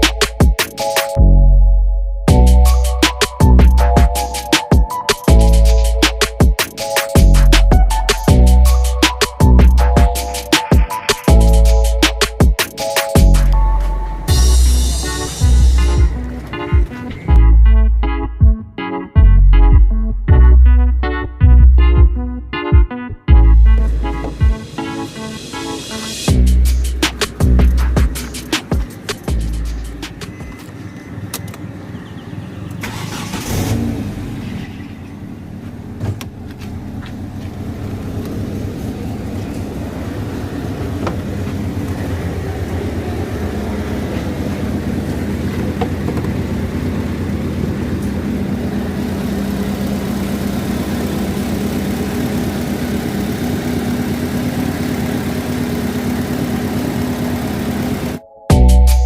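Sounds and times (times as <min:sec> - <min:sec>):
car engine idling: 0:02.3 - 0:17.6, 0:23.5 - 0:58.2.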